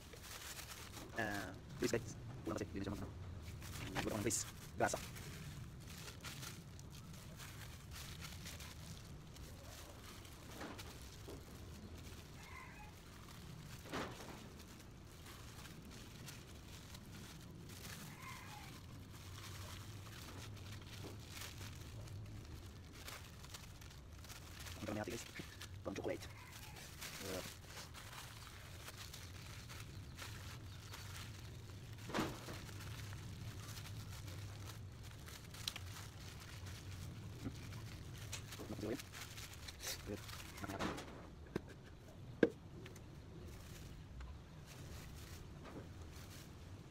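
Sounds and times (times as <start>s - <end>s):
plastic bags rustling: 0.0s - 41.4s, 42.2s - 46.9s.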